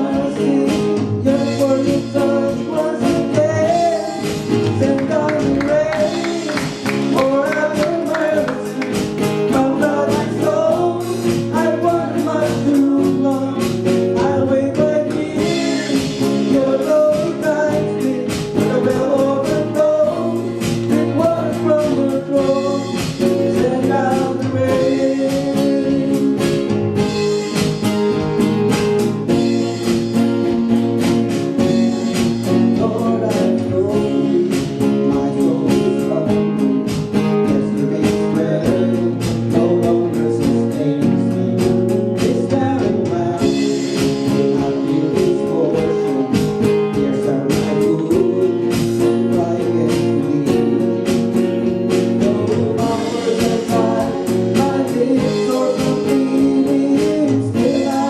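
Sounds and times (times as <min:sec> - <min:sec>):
man singing gospel song: 0:00.0 - 0:26.7, 0:32.4 - 0:58.0
strummed acoustic guitar: 0:00.0 - 0:58.0.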